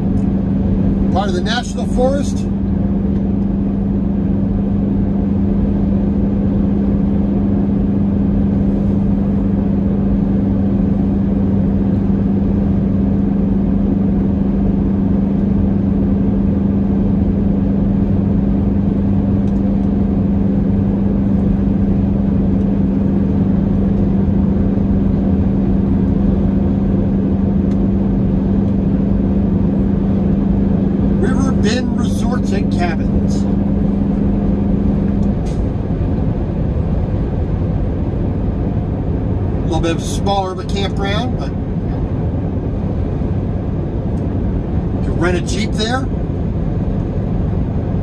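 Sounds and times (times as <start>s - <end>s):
road noise: 0.0s - 48.0s
truck diesel engine droning: 0.0s - 48.0s.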